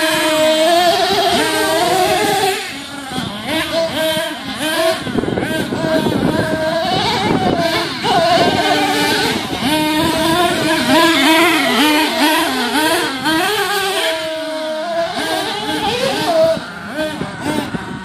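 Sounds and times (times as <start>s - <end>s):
small rc truck engine revving: 0.0s - 18.0s.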